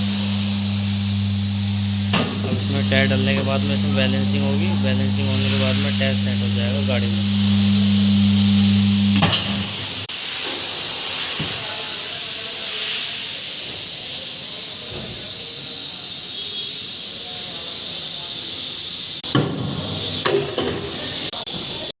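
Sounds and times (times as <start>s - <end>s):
compressed air hissing: 0.0s - 21.9s.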